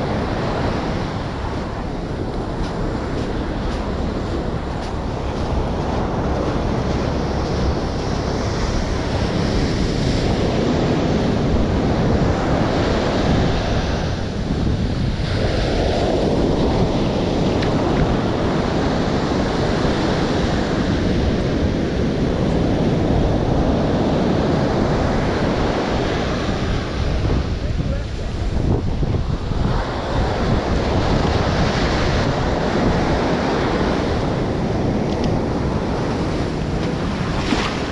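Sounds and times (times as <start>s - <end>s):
ocean surf breaking: 0.0s - 37.9s
wind buffeting microphone: 0.0s - 37.9s.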